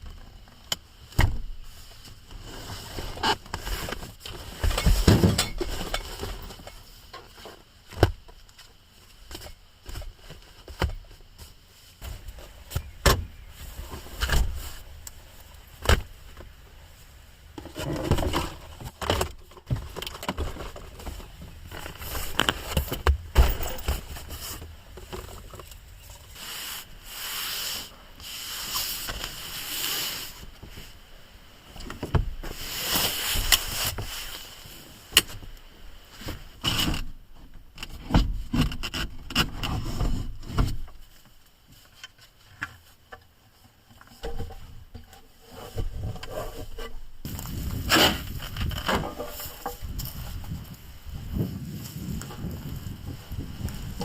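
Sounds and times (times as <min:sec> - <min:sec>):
camping gear rubbing and rustling: 0:00.0 - 0:54.0.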